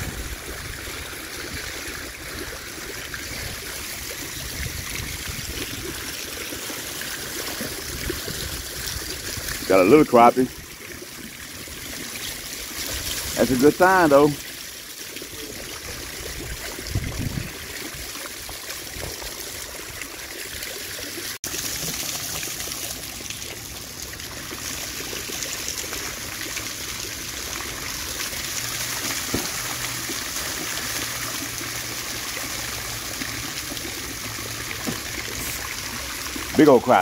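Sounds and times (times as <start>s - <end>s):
water rushing over spillway: 0.0s - 37.0s.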